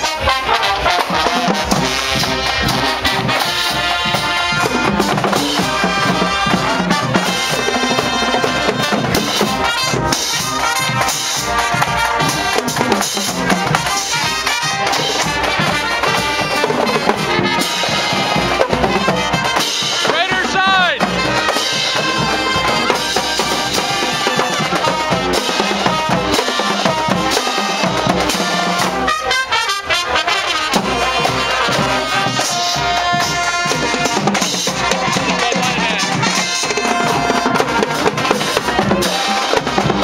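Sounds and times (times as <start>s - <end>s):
brass instruments playing: 0.0s - 40.0s
drums and crash cymbals: 0.0s - 40.0s.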